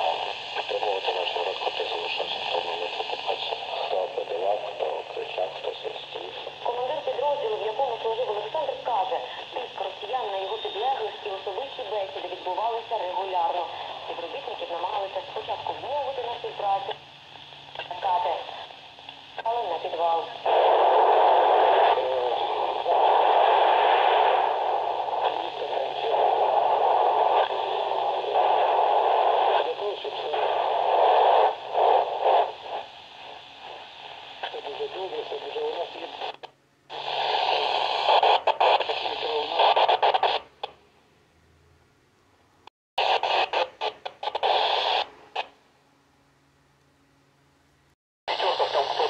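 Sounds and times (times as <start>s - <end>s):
radio static hiss: 0.0s - 40.8s, 43.0s - 45.6s, 48.3s - 49.0s.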